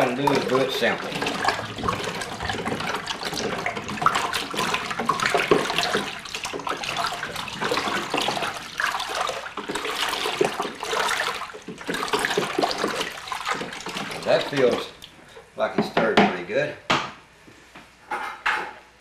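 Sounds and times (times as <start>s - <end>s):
liquid sloshing while stirred: 0.0s - 15.4s.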